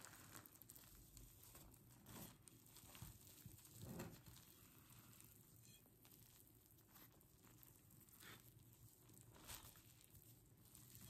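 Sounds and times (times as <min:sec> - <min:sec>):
hands squishing sticky dough: 0:00.0 - 0:11.0.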